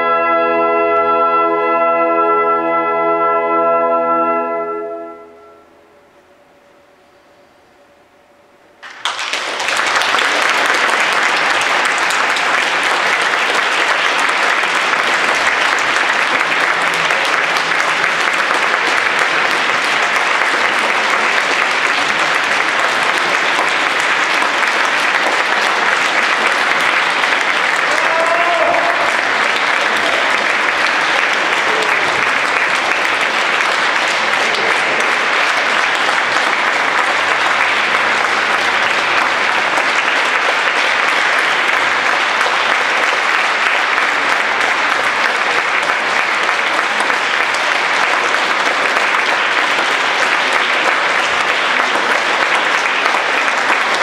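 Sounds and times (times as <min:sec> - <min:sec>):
audience applauding: 0:08.8 - 0:54.0.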